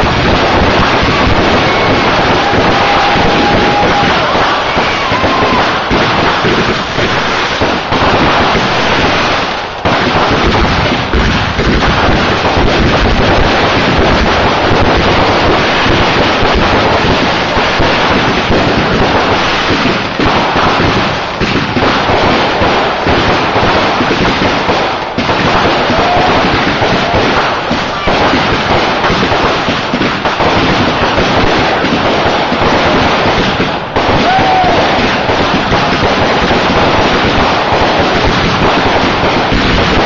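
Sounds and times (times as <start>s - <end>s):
fireworks exploding and crackling: 0.0s - 40.0s.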